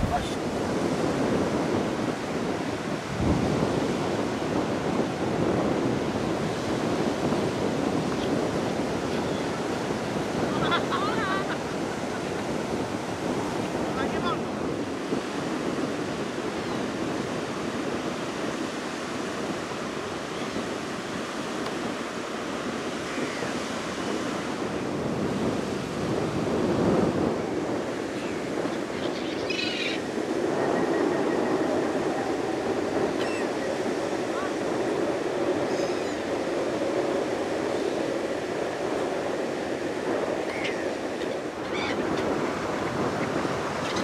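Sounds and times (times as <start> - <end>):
surf washing onto beach: 0.0 - 44.0.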